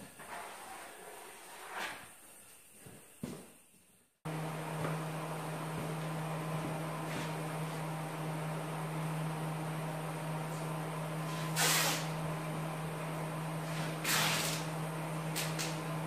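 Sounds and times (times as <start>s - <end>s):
steady low hum: 2.3s - 16.0s.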